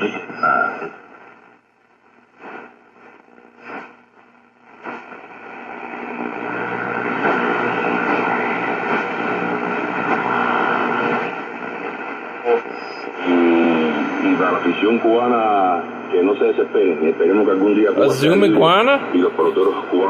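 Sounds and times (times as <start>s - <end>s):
radio static crackles: 0.0s - 20.0s
radio hiss: 2.2s - 20.0s.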